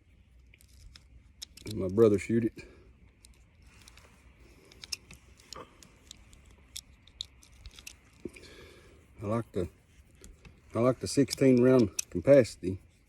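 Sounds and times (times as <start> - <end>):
pistol handling clicks and rustling: 0.0 - 13.0.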